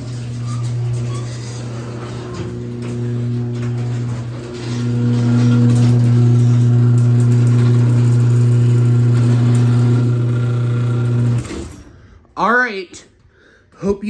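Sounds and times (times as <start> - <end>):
garage door opener buzzing hum: 0.0 - 12.1.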